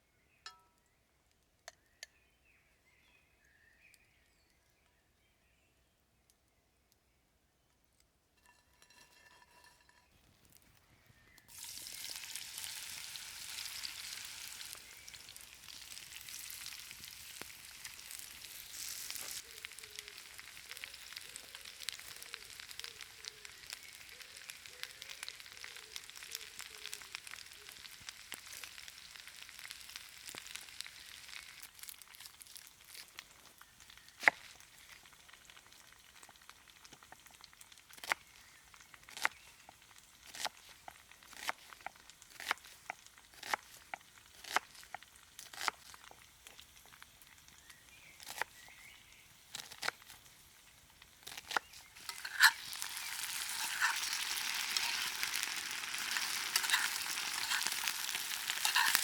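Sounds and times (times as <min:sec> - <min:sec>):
small crackles: 0:07.7 - 0:59.0
food sizzling in a pan: 0:08.4 - 0:10.5, 0:11.2 - 0:59.0.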